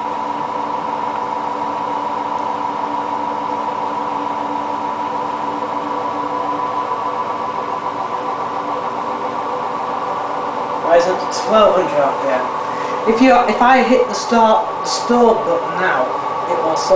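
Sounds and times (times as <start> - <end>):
washing machine spinning: 0.0 - 16.9.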